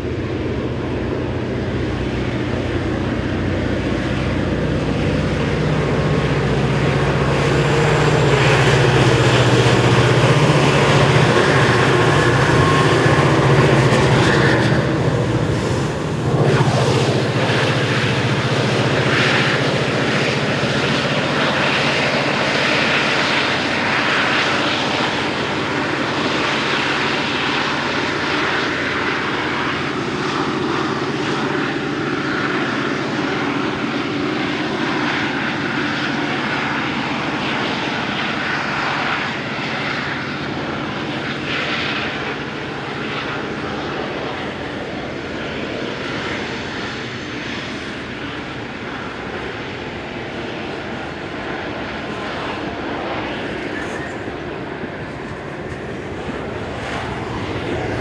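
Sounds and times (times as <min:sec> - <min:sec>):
wheel-on-rail rumble: 0:00.0 - 0:36.6, 0:47.8 - 0:58.0
diesel locomotive engine drone: 0:00.0 - 0:58.0.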